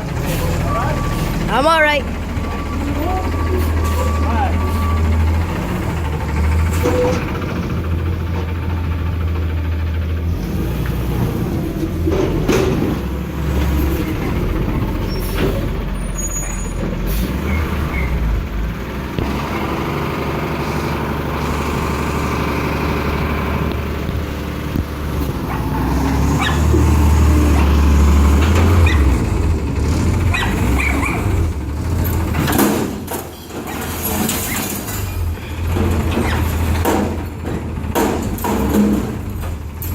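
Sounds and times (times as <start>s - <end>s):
garbage truck engine droning: 0.0s - 39.9s.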